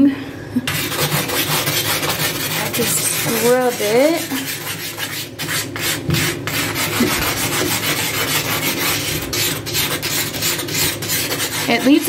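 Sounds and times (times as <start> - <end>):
pumice stone scraping bathtub: 0.7 - 12.0.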